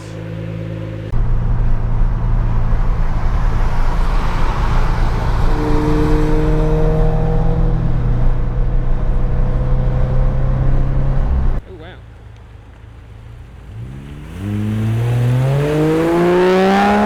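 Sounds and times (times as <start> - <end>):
loud car engine exhaust: 0.0 - 17.0.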